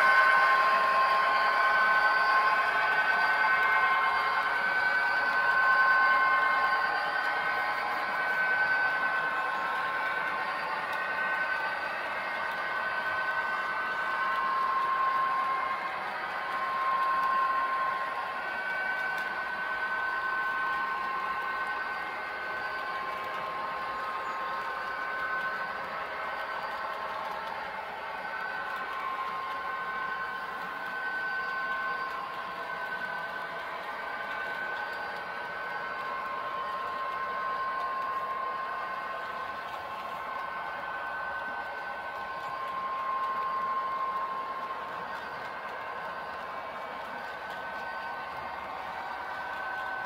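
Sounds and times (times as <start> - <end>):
model train motor whine: 0.0 - 50.0.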